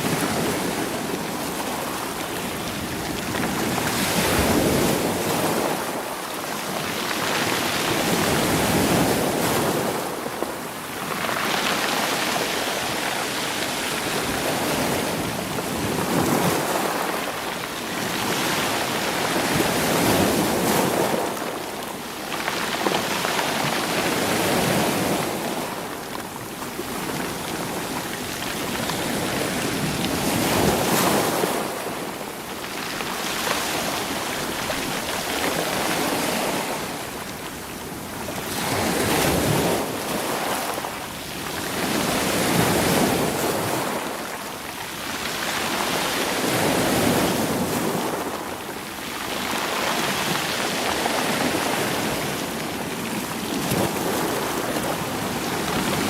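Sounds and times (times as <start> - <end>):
waves washing over rocks: 0.0 - 56.0.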